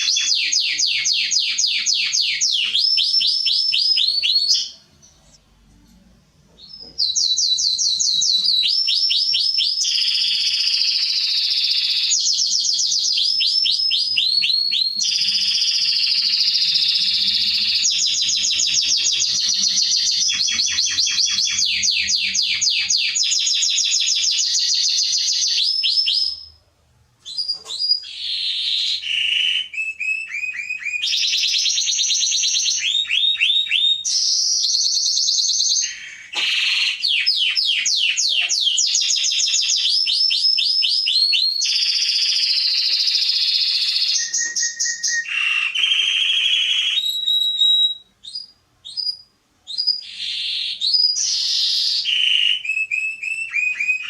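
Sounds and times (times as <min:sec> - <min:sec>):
canary singing trills: 0:00.0 - 0:05.5, 0:06.5 - 0:26.6, 0:27.2 - 0:54.0.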